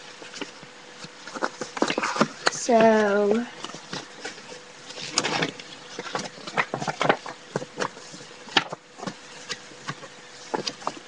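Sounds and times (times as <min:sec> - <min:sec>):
paper cards rustling: 0:00.0 - 0:11.0.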